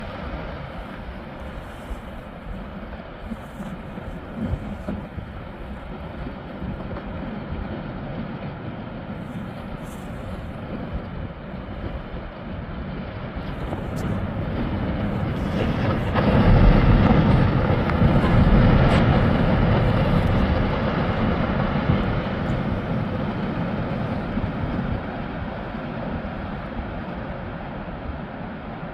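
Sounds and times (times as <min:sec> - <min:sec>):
deep rumble of collapsing ice: 0:00.0 - 0:28.9.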